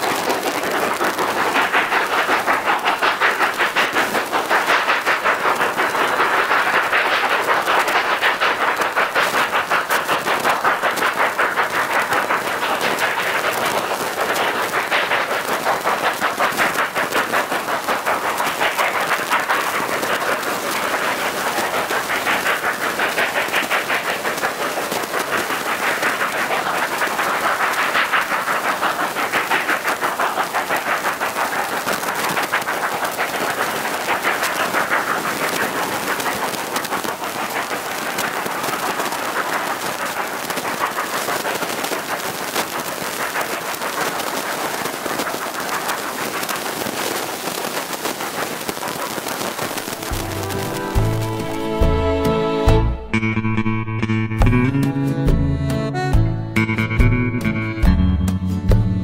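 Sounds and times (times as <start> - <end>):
steam locomotive exhaust chuffing: 0.0 - 59.0.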